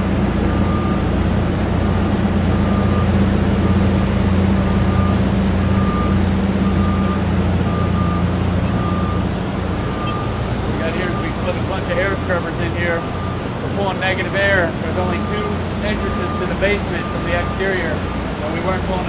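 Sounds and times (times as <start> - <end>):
heavy engine running: 0.0 - 19.0
backup alarm beeping: 0.5 - 1.1, 1.8 - 19.0.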